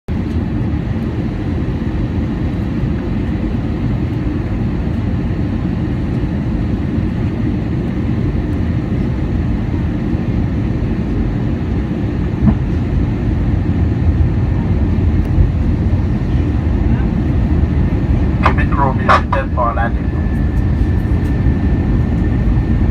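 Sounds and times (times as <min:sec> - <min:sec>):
airplane cabin rumble: 0:00.1 - 0:22.9.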